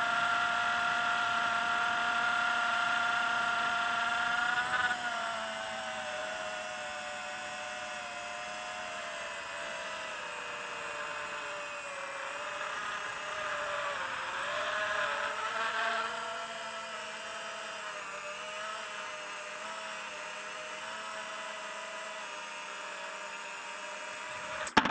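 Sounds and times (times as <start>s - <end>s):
quadcopter motors whining: 0.0s - 24.9s.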